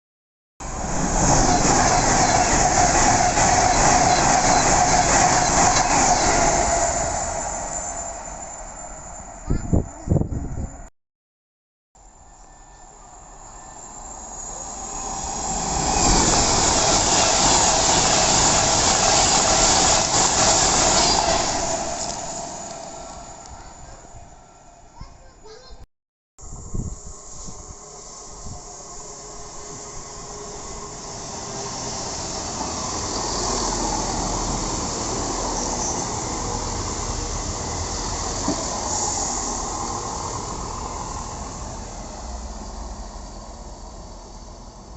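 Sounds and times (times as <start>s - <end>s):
passenger train passing: 0.6s - 10.9s, 12.0s - 25.8s, 26.4s - 44.9s.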